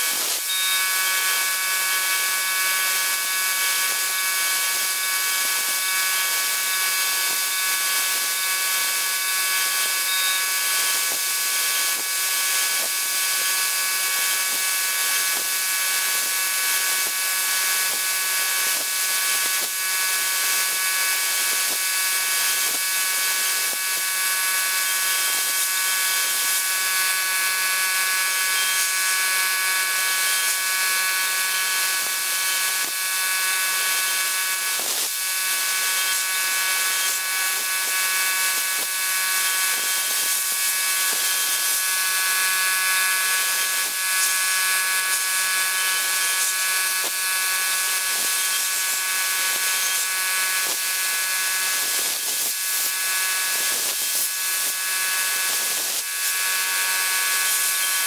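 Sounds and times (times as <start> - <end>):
router spindle whine: 0.0 - 58.0.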